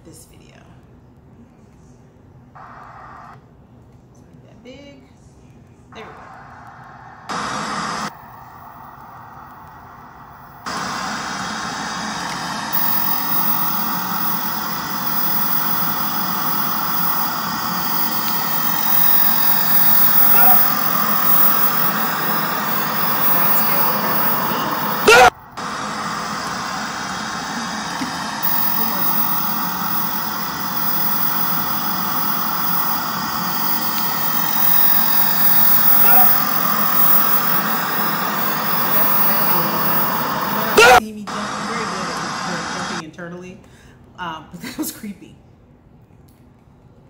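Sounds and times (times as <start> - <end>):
loud static hiss: 2.6 - 3.4, 6.1 - 43.0.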